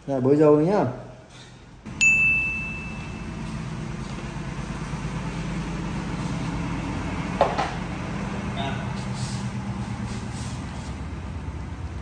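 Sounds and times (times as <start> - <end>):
low hum: 1.8 - 12.0.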